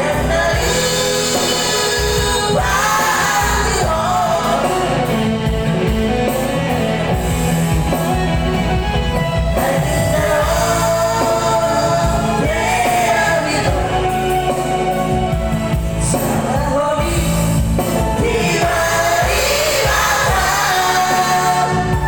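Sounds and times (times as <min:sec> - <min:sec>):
instrumental backing with bass: 0:00.0 - 0:22.0.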